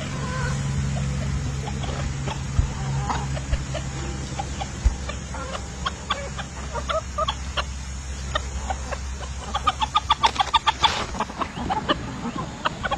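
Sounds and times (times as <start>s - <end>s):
hens clucking: 0.0s - 12.9s.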